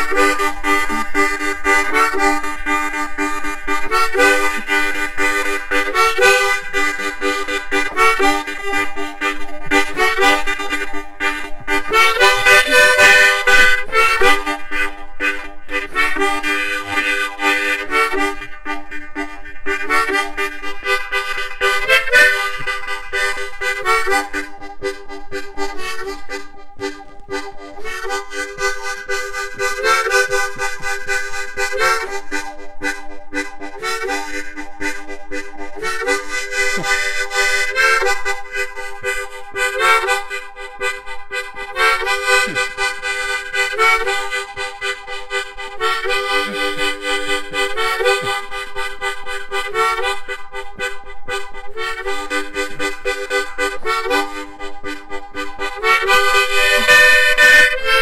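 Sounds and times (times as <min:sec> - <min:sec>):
harmonica playing chords: 0:00.0 - 0:58.0.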